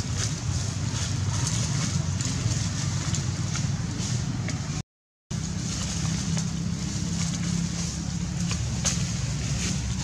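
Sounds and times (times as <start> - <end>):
dry leaves crackling: 0.0 - 10.0
low outdoor rumble: 0.0 - 10.0.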